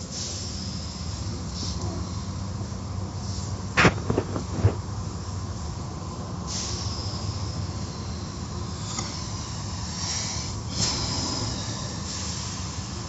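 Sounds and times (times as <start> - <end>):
car wash machinery rumble: 0.0 - 13.0.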